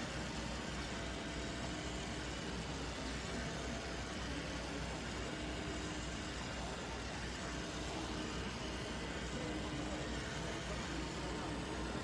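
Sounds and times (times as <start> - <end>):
cutting machine hum and whir: 0.0 - 12.0.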